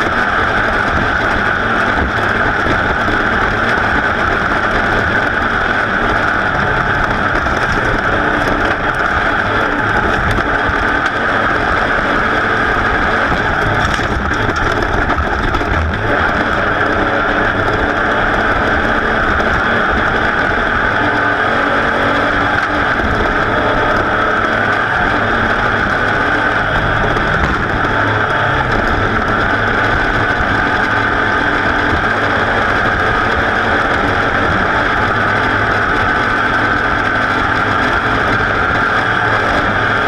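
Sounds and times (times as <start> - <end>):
racing engine running hard: 0.0 - 40.0
wind rushing over microphone: 0.0 - 40.0.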